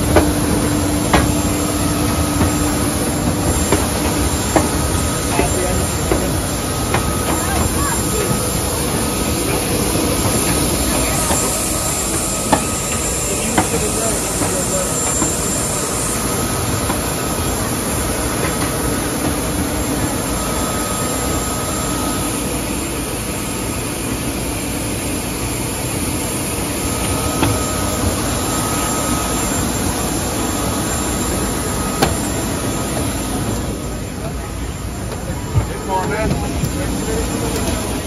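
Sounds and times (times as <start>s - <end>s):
airliner rumble and hiss: 0.0s - 38.0s.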